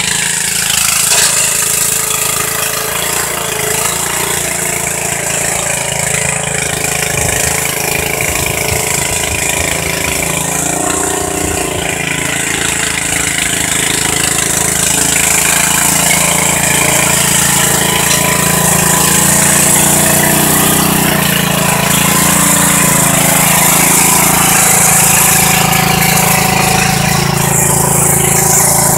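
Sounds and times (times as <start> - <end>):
lawn mower engine under load: 0.0 - 28.9.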